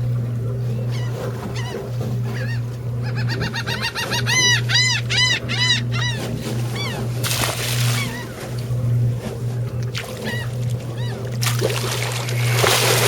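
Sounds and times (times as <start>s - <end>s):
birds calling: 0.0s - 13.0s
boat engine hum: 0.0s - 13.0s.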